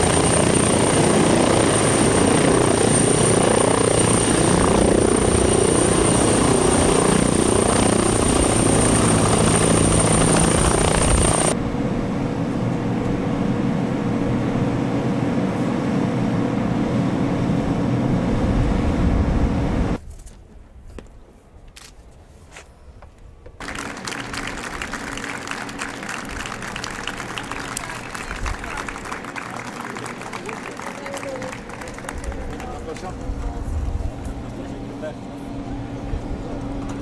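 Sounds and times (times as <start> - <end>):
helicopter engines and rotor: 0.0 - 20.0, 23.6 - 37.0.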